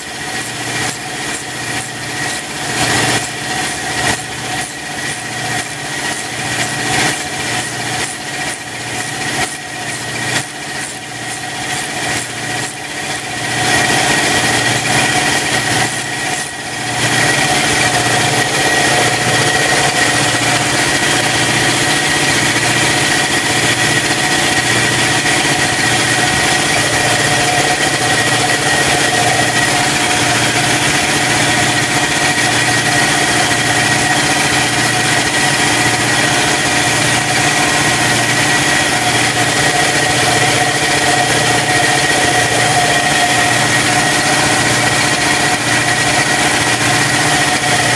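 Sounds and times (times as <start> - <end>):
motor humming with slow pulse: 0.0 - 47.9
ratchet clicking rapidly: 0.0 - 47.9.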